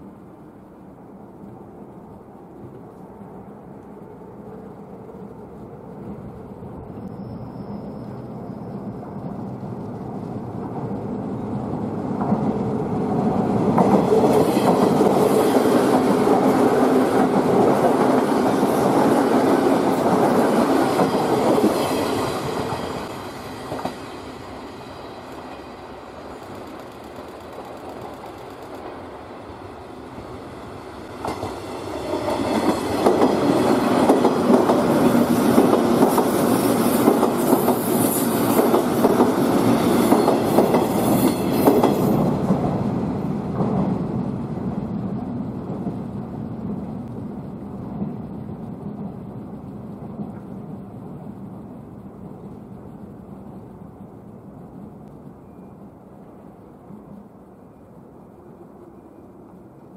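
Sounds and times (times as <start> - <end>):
electric train passing: 0.0 - 59.9.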